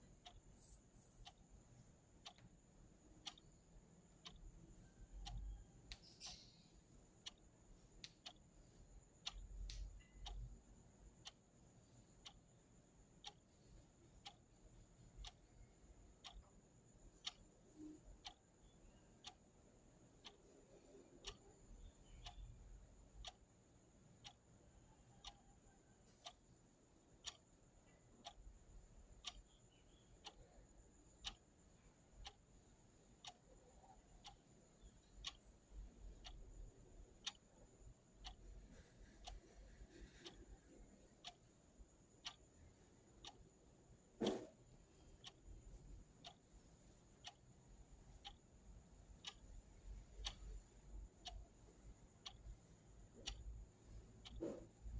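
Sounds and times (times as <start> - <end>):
clock ticking: 0.0 - 54.9.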